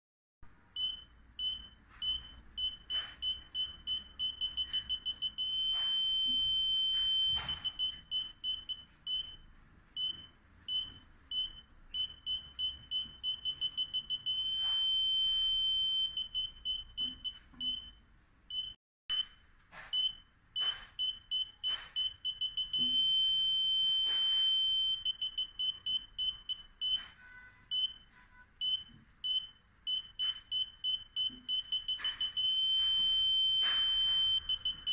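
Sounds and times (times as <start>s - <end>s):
parking sensor beeping: 0.7s - 34.9s.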